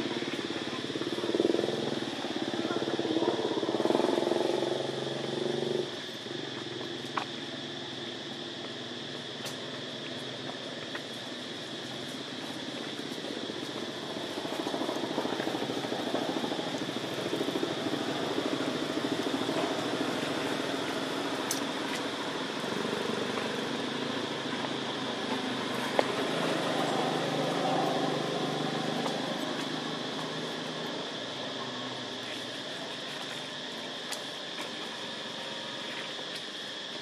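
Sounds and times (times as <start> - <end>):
constant high hiss: 0.0 - 37.0.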